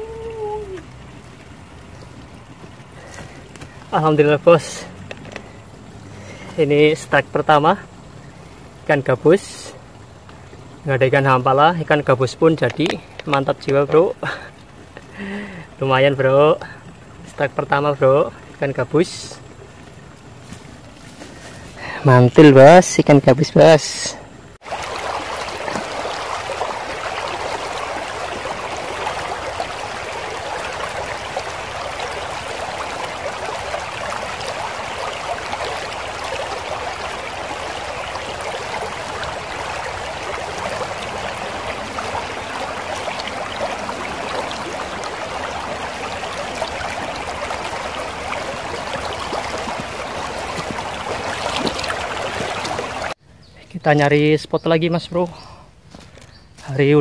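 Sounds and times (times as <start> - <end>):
river water flowing: 0.0 - 53.2.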